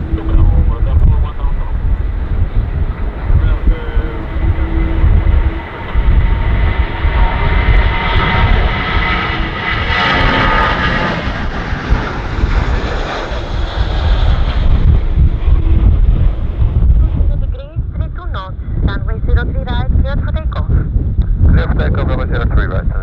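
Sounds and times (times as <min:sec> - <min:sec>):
jet engines whining: 0:00.0 - 0:19.5
wind rumble on microphone: 0:00.0 - 0:23.0.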